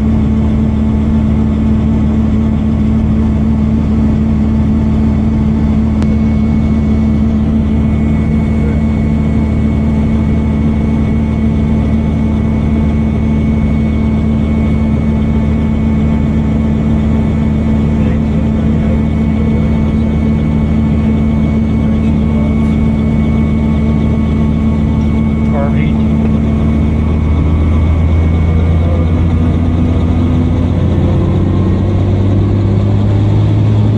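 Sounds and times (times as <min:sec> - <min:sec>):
helicopter engine and rotors: 0:00.0 - 0:33.9.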